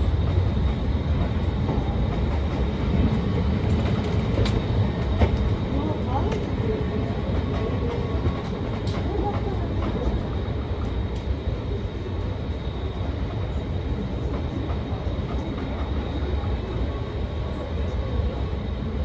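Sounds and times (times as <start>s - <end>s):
train coach rumbling: 0.0s - 19.0s.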